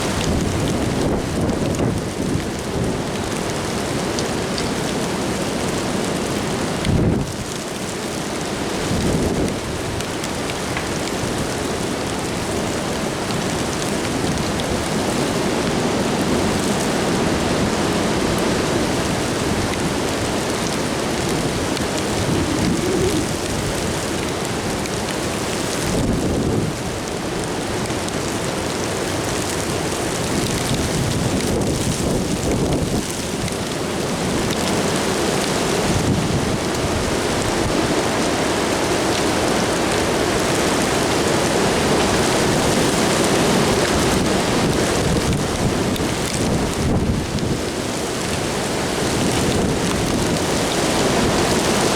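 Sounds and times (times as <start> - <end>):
rain in strong wind: 0.0 - 51.9.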